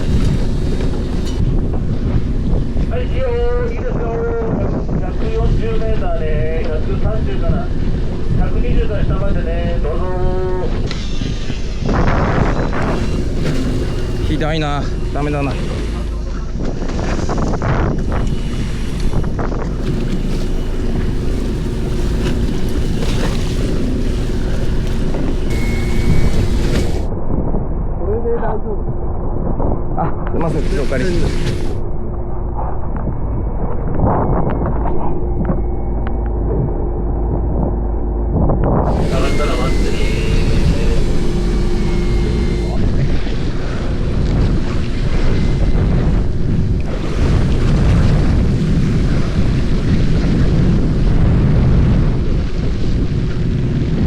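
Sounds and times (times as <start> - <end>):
boat engine humming: 0.0 - 54.0
wind buffeting microphone: 0.0 - 54.0.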